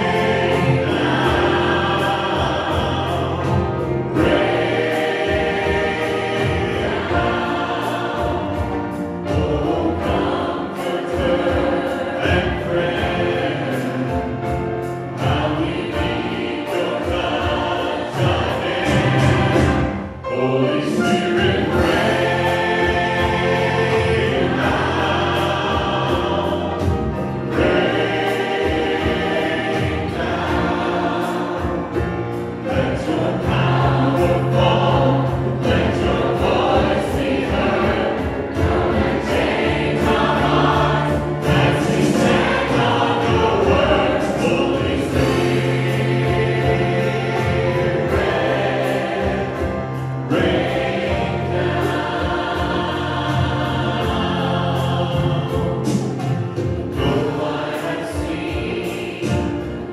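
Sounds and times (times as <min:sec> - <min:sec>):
drum beat: 0:00.0 - 0:20.2, 0:21.2 - 0:59.9
choir singing gospel song: 0:00.0 - 0:59.9
grand piano: 0:00.0 - 0:59.9.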